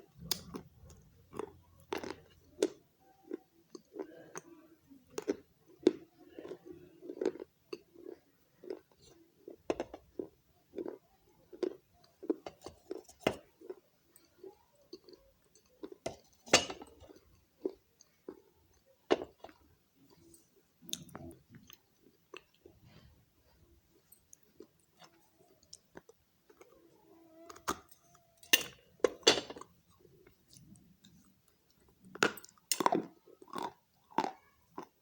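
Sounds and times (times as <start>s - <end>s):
chewing with sharp crunches: 0.1s - 23.1s, 24.0s - 35.0s.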